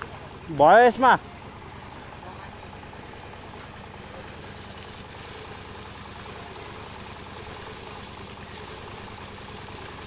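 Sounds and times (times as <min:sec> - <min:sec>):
machine engine running: 0:00.0 - 0:10.0.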